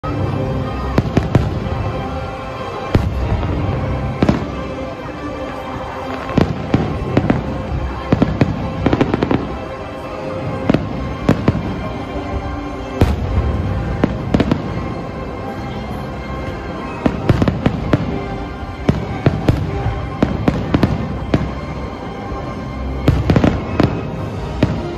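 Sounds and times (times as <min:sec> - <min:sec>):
music playing: 0:00.0 - 0:24.9
fireworks bursting: 0:00.7 - 0:15.0, 0:16.4 - 0:22.2, 0:23.0 - 0:24.9.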